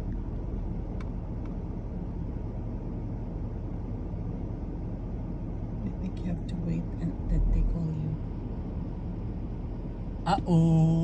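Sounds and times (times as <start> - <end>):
truck cabin engine rumble: 0.0 - 11.0.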